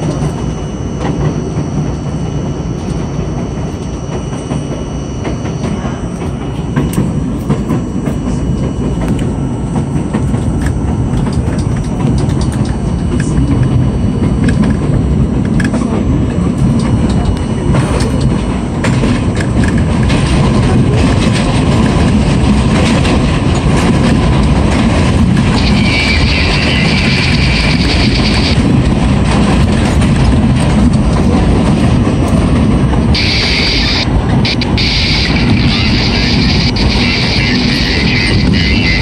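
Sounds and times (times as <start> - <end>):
subway car rumbling on track: 0.0 - 39.0.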